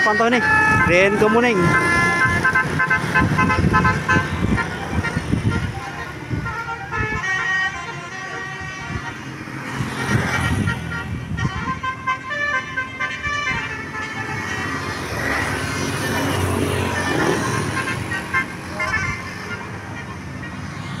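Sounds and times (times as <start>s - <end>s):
bus horn playing multi-note tune: 0.0s - 20.9s.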